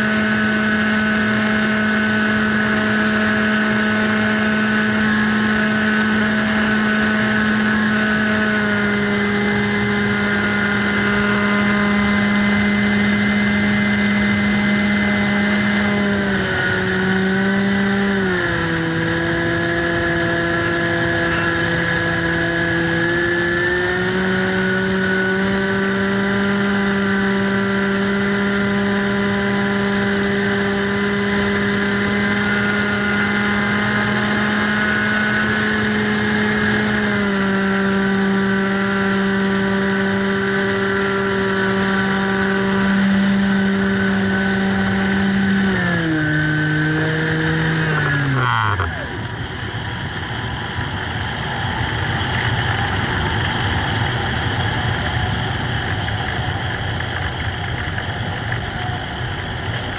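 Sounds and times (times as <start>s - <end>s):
model plane motor and propeller: 0.0s - 59.9s.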